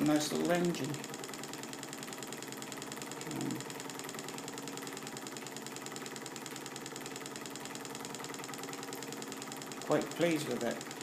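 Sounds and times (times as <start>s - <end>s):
stirling engine ticking: 0.0s - 11.0s.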